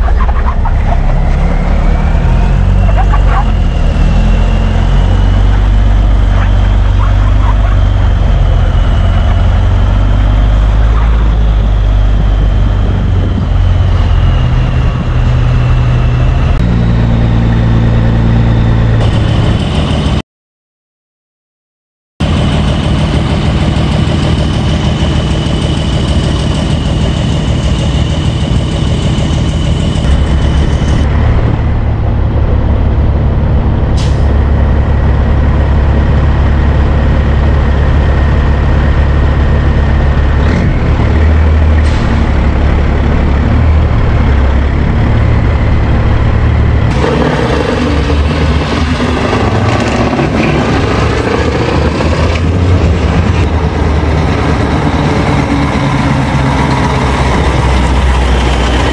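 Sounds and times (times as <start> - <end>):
diesel truck engines running: 0.0 - 20.2, 22.2 - 58.9.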